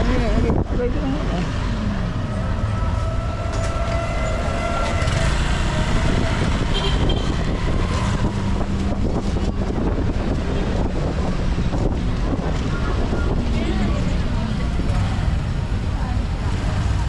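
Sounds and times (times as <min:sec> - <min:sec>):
engine running: 0:01.2 - 0:17.0
rushing noise: 0:01.4 - 0:17.0.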